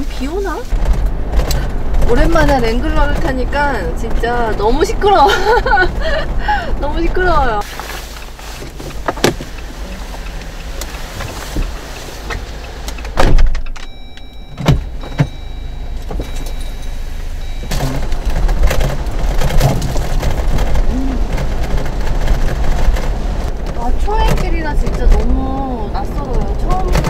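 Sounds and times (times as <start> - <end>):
car knocks and rattles: 0.0 - 27.0
engine and road rumble in car: 0.0 - 27.0.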